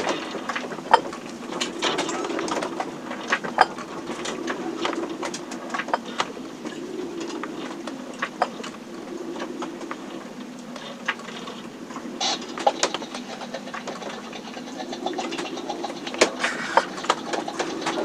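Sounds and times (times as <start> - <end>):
boat creaking and clicking: 0.0 - 18.0.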